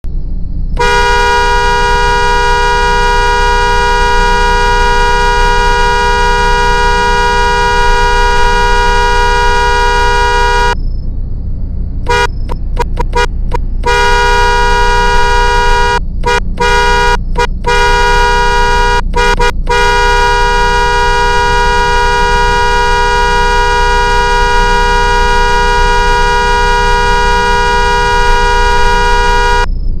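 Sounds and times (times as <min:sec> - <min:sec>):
low rumble: 0:00.0 - 0:30.0
two-note car horn honking: 0:00.8 - 0:10.8, 0:12.1 - 0:29.7.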